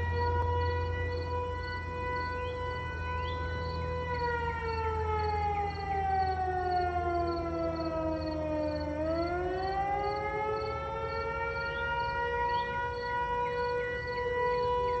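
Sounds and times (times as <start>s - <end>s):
fire siren sliding in pitch: 0.0s - 15.0s
steady siren tone: 0.0s - 15.0s.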